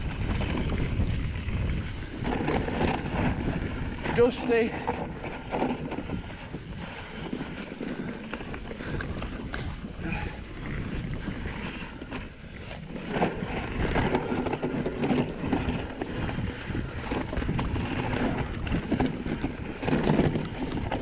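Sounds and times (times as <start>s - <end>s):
bike chain and frame rattling: 0.0s - 21.0s
tyres on loose dirt: 0.0s - 21.0s
wind rushing over microphone: 0.0s - 21.0s.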